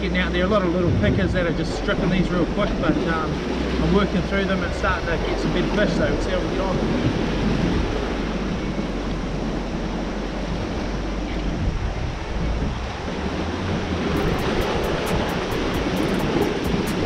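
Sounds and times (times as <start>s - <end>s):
wind rumbling on microphone: 0.0s - 17.0s
surf washing against rocks: 0.2s - 17.0s.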